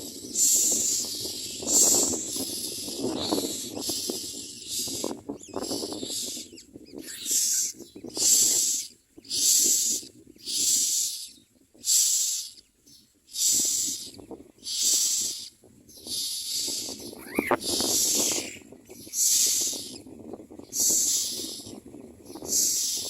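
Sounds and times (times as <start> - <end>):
nestlings hissing begging calls: 0.0 - 12.7, 13.3 - 23.0.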